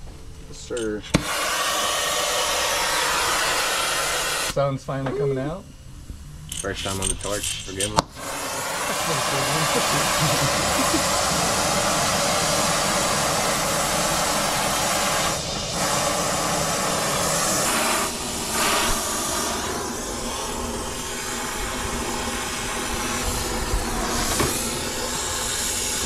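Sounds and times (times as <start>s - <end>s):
torch flame hissing: 0.6s - 5.6s, 6.2s - 26.0s.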